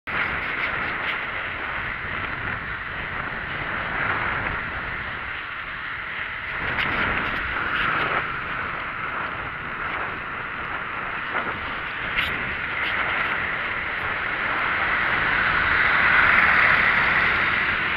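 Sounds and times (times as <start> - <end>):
wind rushing on microphone: 0.1 - 17.9.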